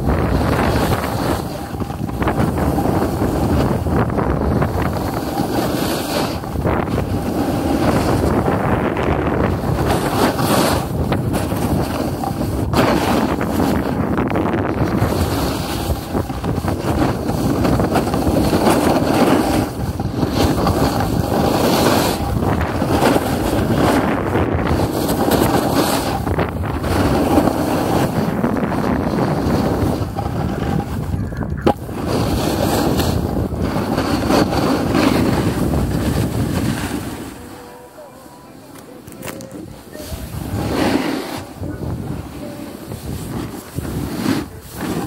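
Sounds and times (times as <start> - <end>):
wind buffeting microphone: 0.0 - 38.0, 39.0 - 45.0
skis scraping on snow: 0.0 - 45.0.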